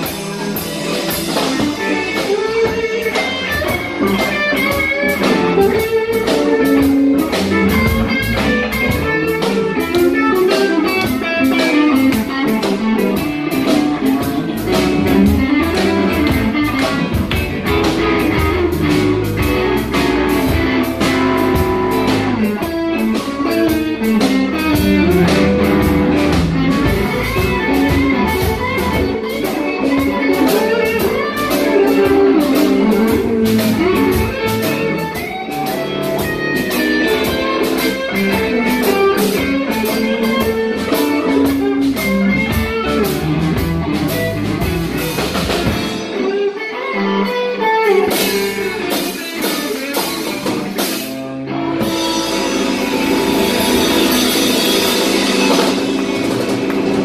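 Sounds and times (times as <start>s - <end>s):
electric guitar: 0.0s - 57.0s
live blues band playing: 0.0s - 57.0s.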